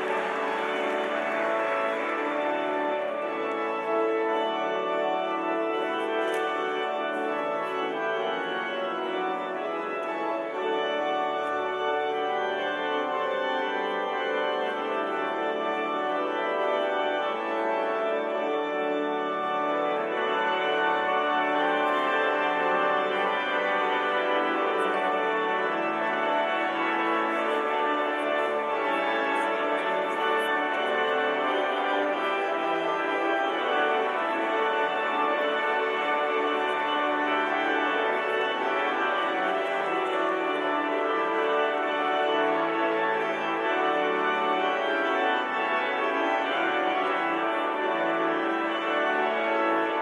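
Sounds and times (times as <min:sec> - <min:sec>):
church organ chords: 0:00.0 - 0:50.0.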